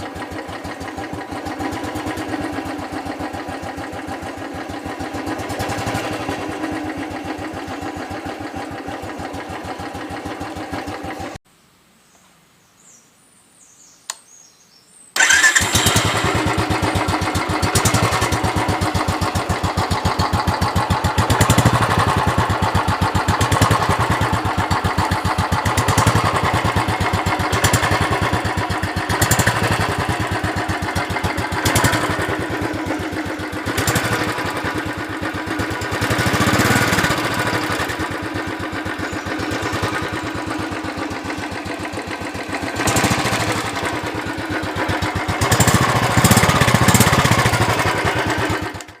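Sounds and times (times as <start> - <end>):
motorcycle engine idling and revving: 0.0 - 11.4, 15.2 - 49.0.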